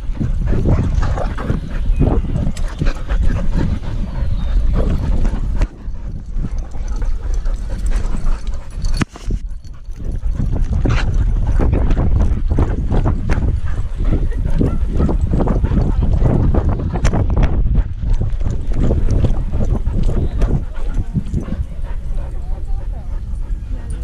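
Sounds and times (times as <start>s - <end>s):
dog sounds: 0.0s - 24.0s
heavy wind rumble: 0.0s - 24.0s.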